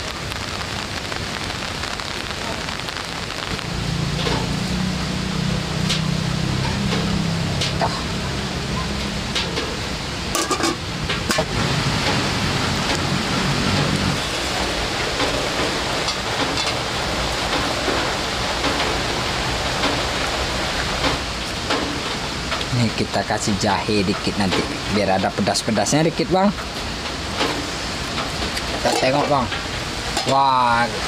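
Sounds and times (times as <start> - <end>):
rain hissing: 0.0 - 31.0.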